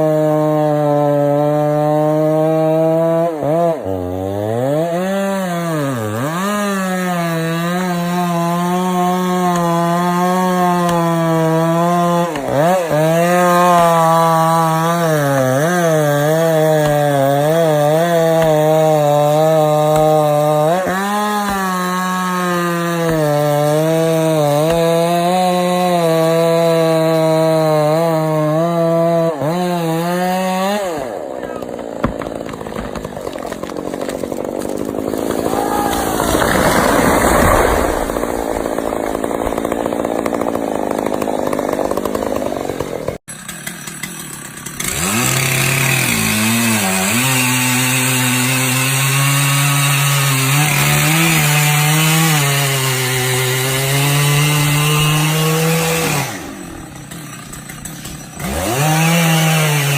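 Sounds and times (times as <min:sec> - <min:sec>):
chainsaw cutting a log: 0:00.0 - 0:59.9.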